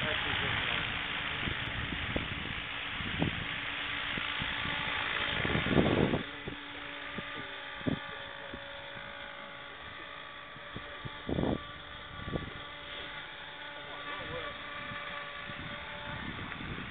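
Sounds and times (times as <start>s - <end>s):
rc helicopter rotor whine: 0.0s - 16.9s
wind gusting on microphone: 0.0s - 16.9s.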